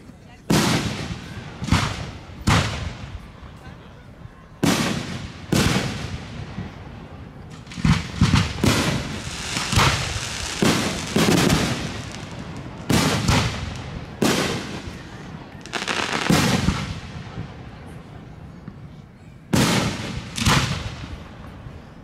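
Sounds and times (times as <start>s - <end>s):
fireworks bursting with echoing rumble: 0.5s - 3.6s, 4.6s - 18.8s, 19.5s - 22.0s.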